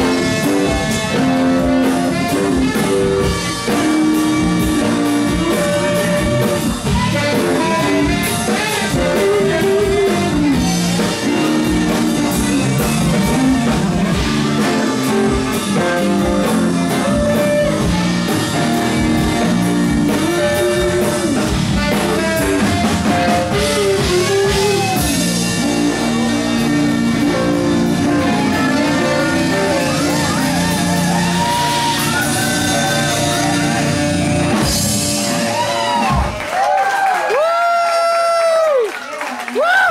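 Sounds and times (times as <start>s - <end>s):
person singing: 0.0s - 36.1s
drumming: 0.0s - 39.9s
funk band playing: 0.0s - 39.9s.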